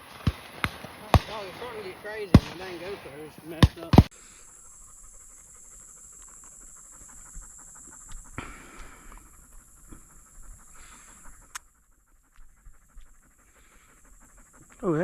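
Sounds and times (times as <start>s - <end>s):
dog panting: 0.8s - 15.0s.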